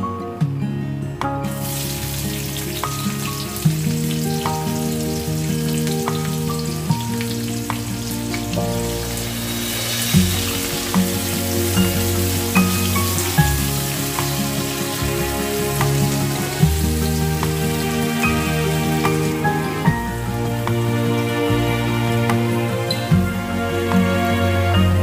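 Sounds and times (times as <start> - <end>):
guitar music: 0.0 - 25.0
spices and onions sizzling in oil: 1.5 - 23.3.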